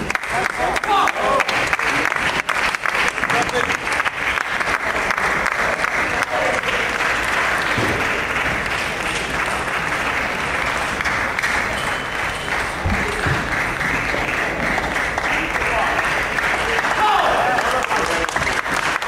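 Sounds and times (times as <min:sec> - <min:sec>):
crowd clapping: 0:00.0 - 0:19.0
voices: 0:00.2 - 0:19.0.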